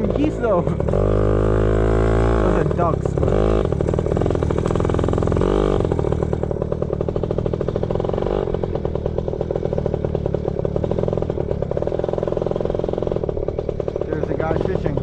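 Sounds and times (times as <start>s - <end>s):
small two-stroke engine running: 0.0s - 15.0s.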